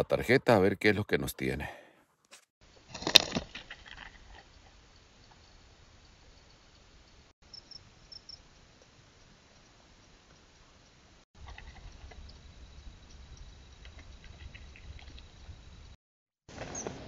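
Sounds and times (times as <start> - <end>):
faint outdoor hiss: 2.6 - 17.0.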